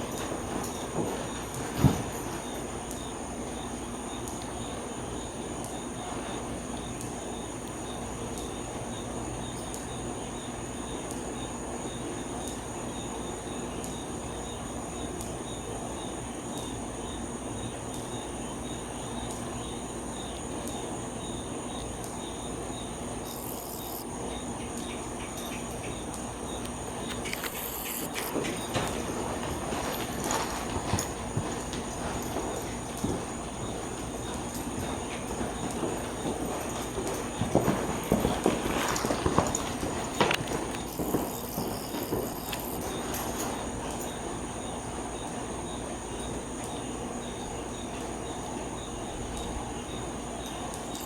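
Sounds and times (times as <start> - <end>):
crickets chirping: 0.0 - 51.0
outdoor background noise: 0.0 - 51.0.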